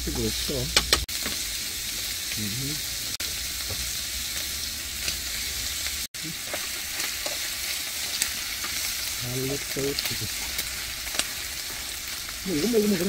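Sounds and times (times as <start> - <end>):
shrimp sizzling in butter: 0.1 - 13.0.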